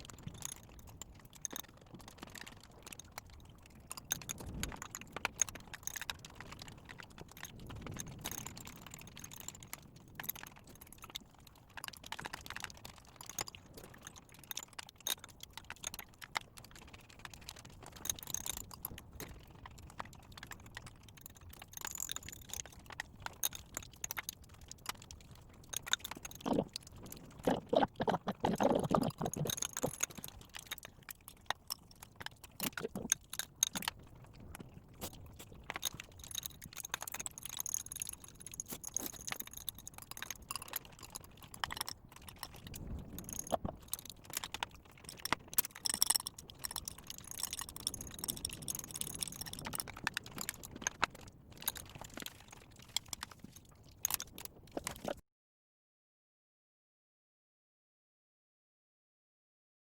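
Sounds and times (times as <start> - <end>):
chewing: 0.0 - 55.2.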